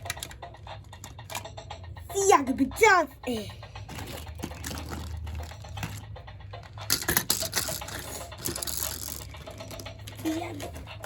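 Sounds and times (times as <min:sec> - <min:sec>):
toy figures clicking and clattering: 0:00.0 - 0:11.0.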